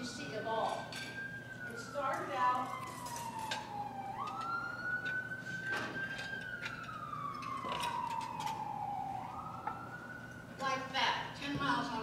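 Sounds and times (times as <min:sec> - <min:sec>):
emergency siren wailing: 0:00.0 - 0:12.0.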